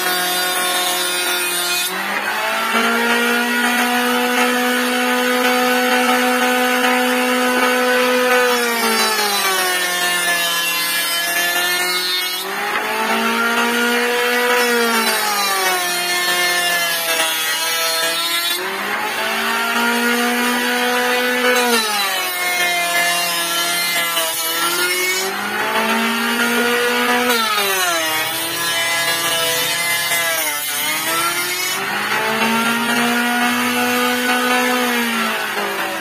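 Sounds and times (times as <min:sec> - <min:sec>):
blades cutting wood: 0:00.0 - 0:36.0
planer motor hum: 0:01.9 - 0:10.3, 0:11.4 - 0:36.0.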